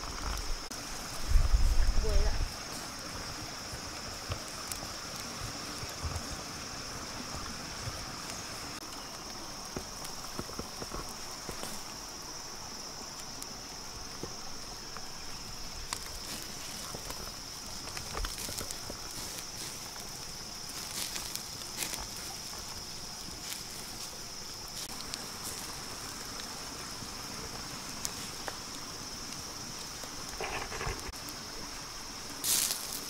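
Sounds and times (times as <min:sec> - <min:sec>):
campfire crackling and popping: 0:00.0 - 0:33.0
insects droning: 0:00.0 - 0:33.0.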